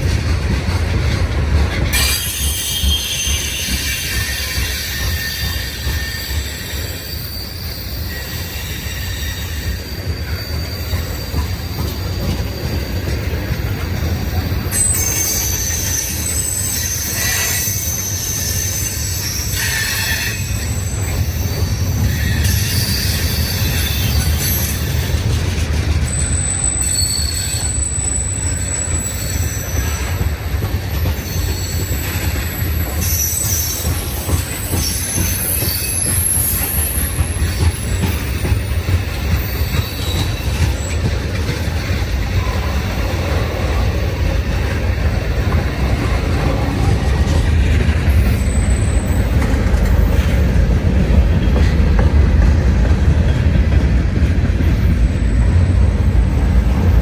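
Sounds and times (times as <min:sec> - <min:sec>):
freight train rumbling: 0:00.0 - 0:57.0
high wheel squeals: 0:01.9 - 0:57.0.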